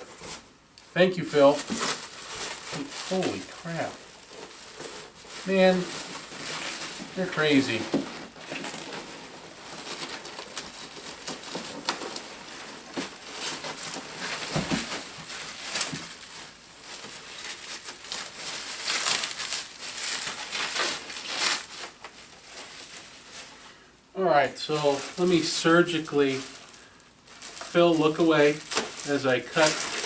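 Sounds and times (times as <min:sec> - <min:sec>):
packing material crinkling: 0:00.0 - 0:30.0.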